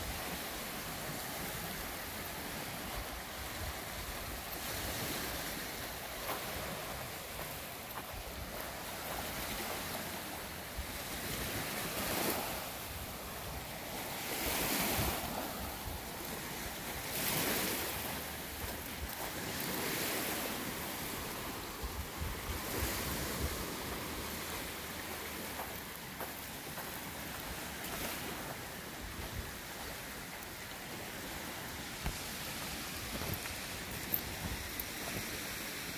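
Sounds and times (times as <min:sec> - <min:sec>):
waves washing onto gravel shore: 0:00.0 - 0:35.9.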